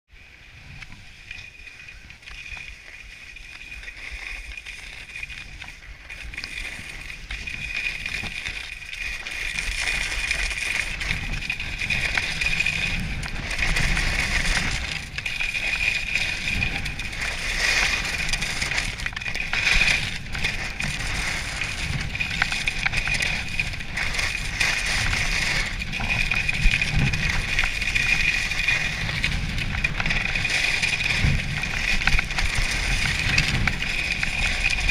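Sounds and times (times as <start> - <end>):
skis scraping over snow: 0.2 - 34.9
wind rumbling on microphone: 0.2 - 34.9.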